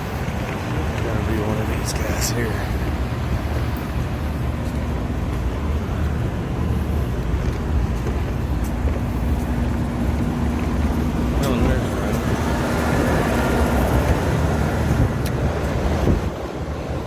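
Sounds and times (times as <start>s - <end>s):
hvac equipment rumble: 0.0s - 17.0s.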